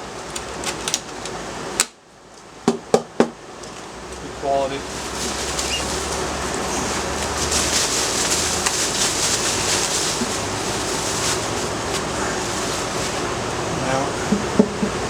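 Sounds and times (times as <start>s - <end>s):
air conditioner unit hissing: 0.0s - 15.0s.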